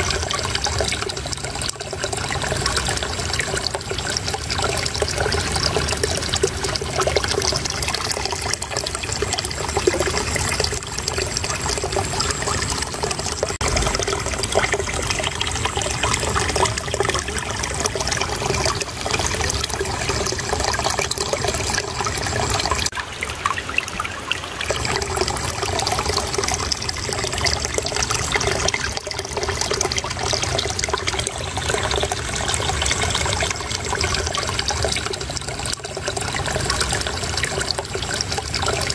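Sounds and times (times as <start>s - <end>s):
water splashing over stones: 0.0s - 38.9s.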